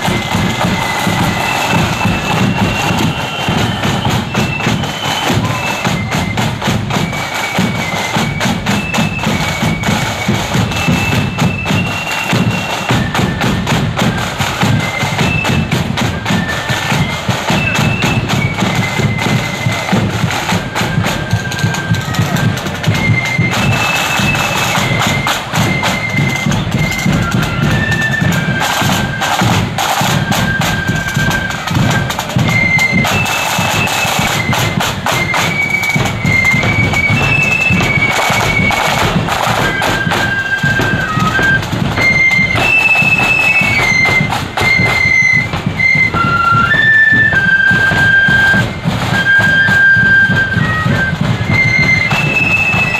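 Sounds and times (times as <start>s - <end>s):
flutes playing melody: 0.0s - 52.9s
side drums: 0.0s - 52.9s.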